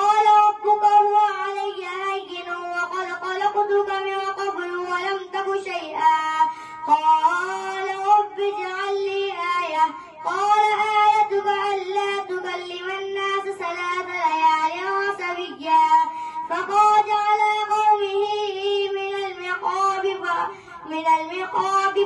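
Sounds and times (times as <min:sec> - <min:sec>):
boy chanting melodically: 0:00.0 - 0:22.0.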